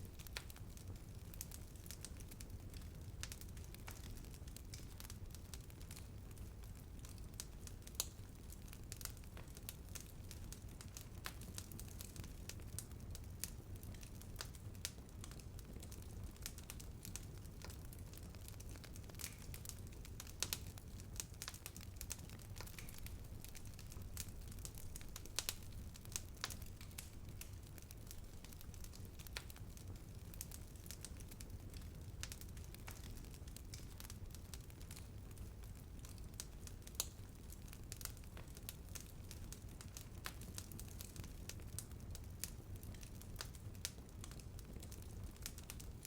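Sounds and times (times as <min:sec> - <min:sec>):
bonfire crackling and popping: 0:00.0 - 0:46.0
low steady fire rumble: 0:00.0 - 0:46.0.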